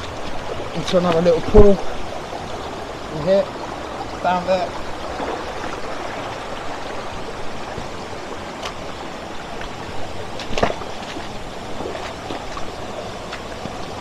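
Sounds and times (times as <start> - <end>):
stream water trickling over rocks: 0.0 - 14.0.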